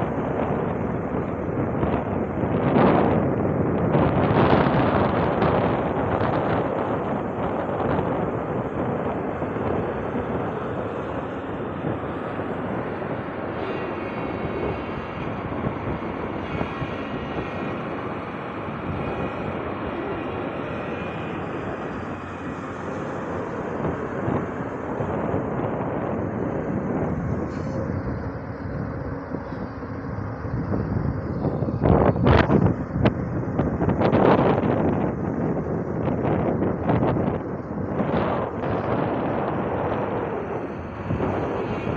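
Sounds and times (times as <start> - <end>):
excavator engine and hydraulics: 0.0 - 41.9
wind gusts on microphone: 0.0 - 41.9.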